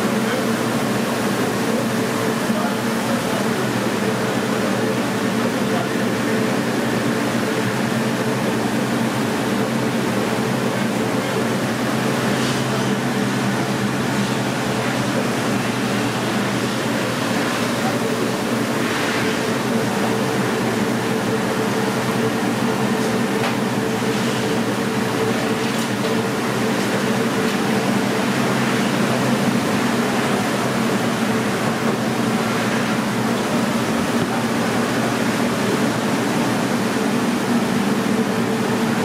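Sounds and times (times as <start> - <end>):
ventilation fans humming: 0.0 - 39.0.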